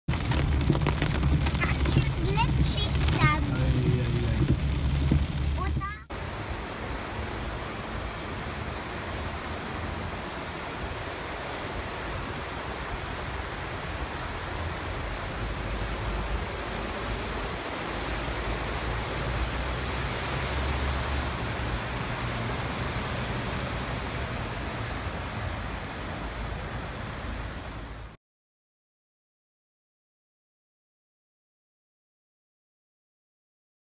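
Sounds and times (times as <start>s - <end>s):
heavy rain downpour: 0.1s - 28.2s
rushing floodwater: 0.1s - 28.2s
vehicles wading through water: 0.1s - 28.2s.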